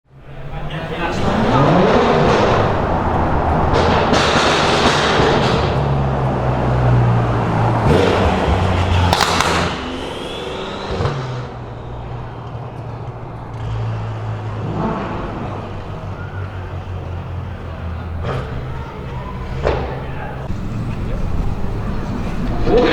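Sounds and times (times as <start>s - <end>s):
car engine running loud: 0.1s - 22.9s
exhaust crack: 0.1s - 22.9s.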